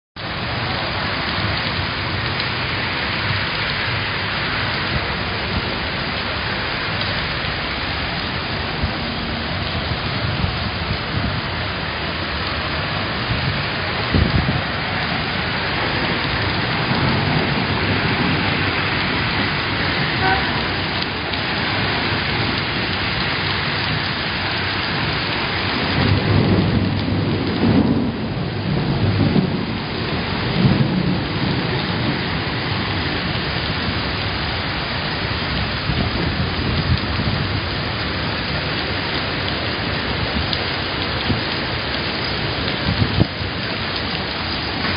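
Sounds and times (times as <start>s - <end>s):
heavy rain pouring: 0.2s - 44.9s
low rumbles: 0.2s - 44.9s.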